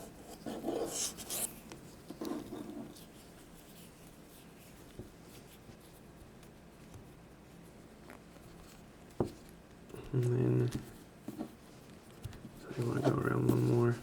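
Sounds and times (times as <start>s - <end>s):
cable rubbing and rustling: 0.0s - 14.0s.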